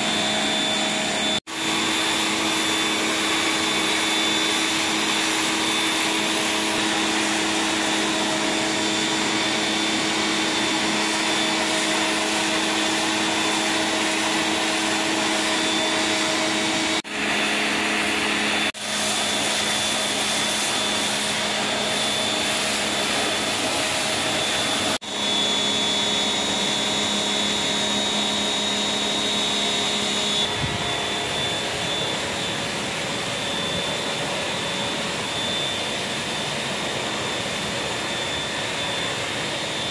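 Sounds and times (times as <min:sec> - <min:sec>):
pressure washer motor whine: 0:00.0 - 0:39.9
water jet spraying on stone floor: 0:00.0 - 0:39.9.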